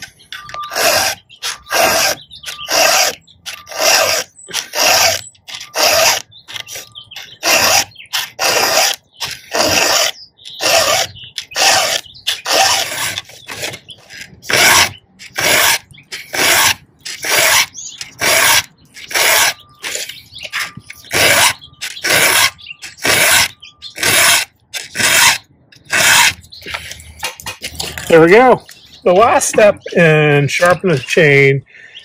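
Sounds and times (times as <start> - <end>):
file rasping on chainsaw chain: 0.0 - 28.2.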